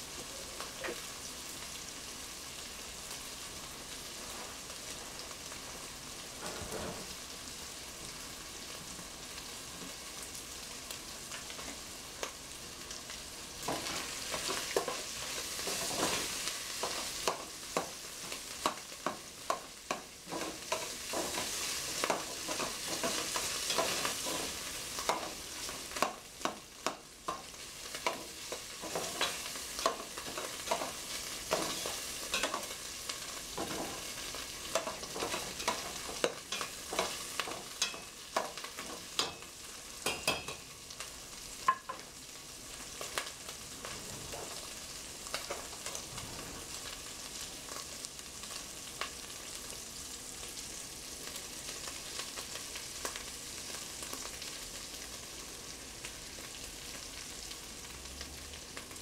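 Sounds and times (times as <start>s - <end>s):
sausage sizzling in a pot: 0.0s - 59.0s.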